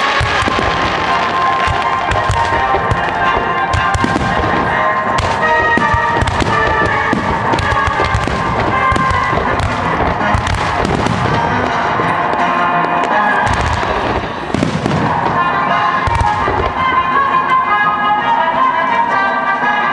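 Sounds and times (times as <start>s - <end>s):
fireworks bangs and crackles: 0.0s - 19.1s
background music: 0.0s - 19.9s.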